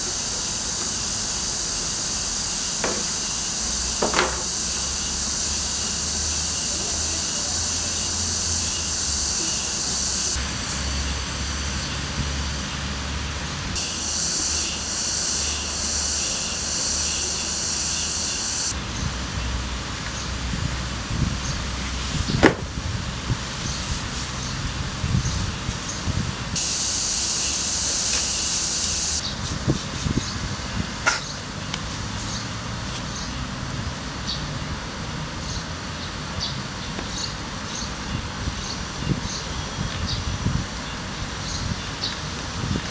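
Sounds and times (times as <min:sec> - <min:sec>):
high hiss: 0:00.0 - 0:42.9.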